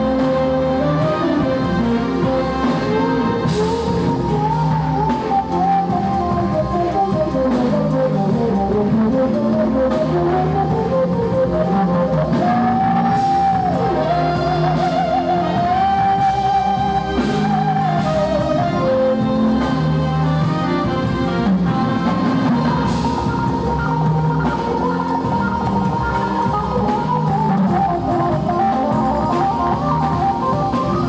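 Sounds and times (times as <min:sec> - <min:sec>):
bass: 0:00.0 - 0:31.0
drums: 0:00.0 - 0:31.0.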